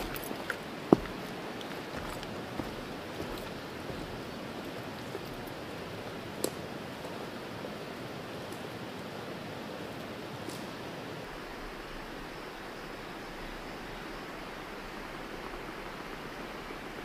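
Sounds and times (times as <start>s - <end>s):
steady rushing background noise: 0.0s - 17.0s.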